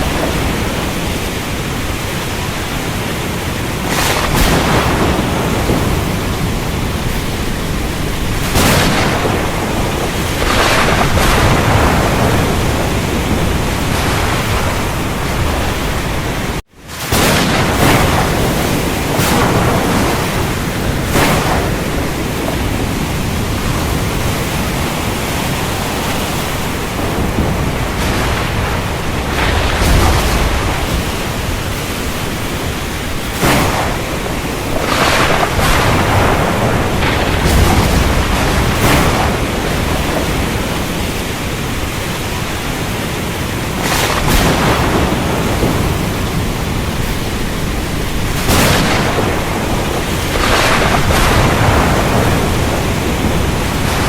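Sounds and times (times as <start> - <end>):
rain rushing hiss: 0.0 - 54.0
sharp thunder cracks: 0.0 - 54.0
thunder rumbling: 0.0 - 54.0.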